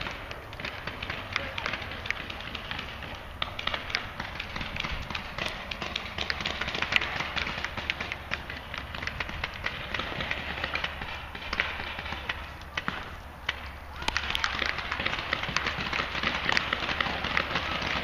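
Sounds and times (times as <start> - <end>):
paintball markers firing: 0.0 - 18.0.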